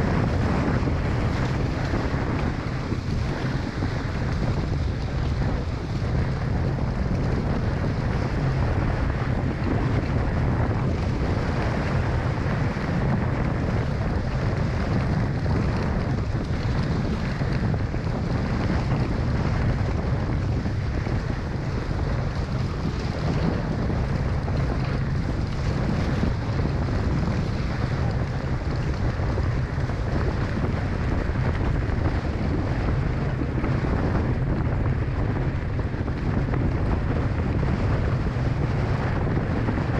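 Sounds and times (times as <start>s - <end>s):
water rushing along hulls: 0.0s - 39.9s
wind buffeting microphone: 0.0s - 39.9s.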